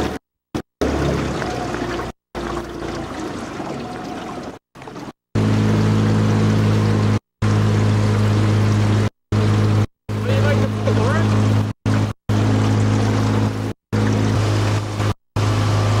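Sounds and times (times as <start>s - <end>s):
outboard motor running: 0.0s - 16.0s
water rushing past hull: 0.8s - 16.0s.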